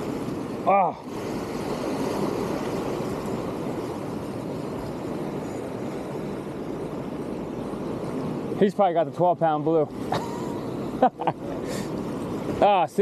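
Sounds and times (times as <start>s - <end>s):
waves washing against rocks: 0.0s - 13.0s
wind: 0.0s - 13.0s.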